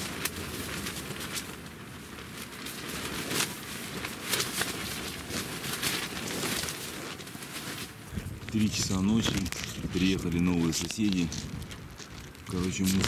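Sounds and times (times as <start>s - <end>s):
rushing wind: 0.0s - 13.0s
tent fabric flapping: 0.0s - 13.0s.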